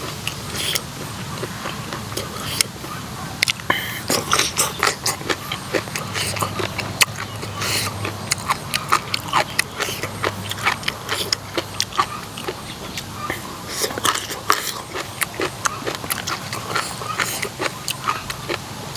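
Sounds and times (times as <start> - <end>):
person chewing and lip smacking: 0.0 - 18.9.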